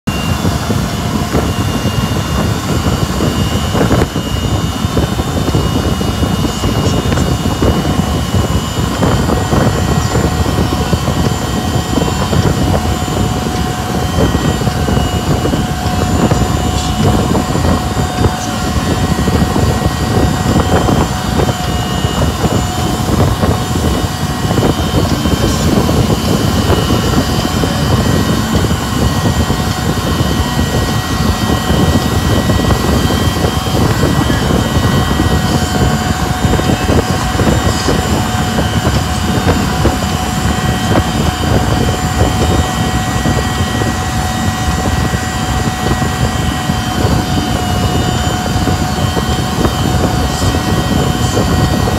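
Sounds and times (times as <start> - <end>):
motorboat engine running fast: 0.0 - 51.9
wind buffeting microphone: 0.0 - 51.9.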